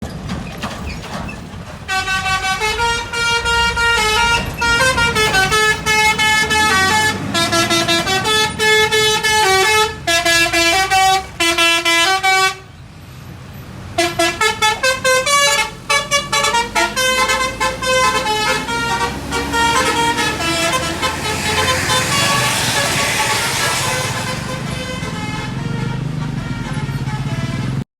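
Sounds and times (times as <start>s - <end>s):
low vehicle rumble: 0.0s - 27.8s
musical air horn tune: 1.9s - 12.7s, 14.0s - 27.8s.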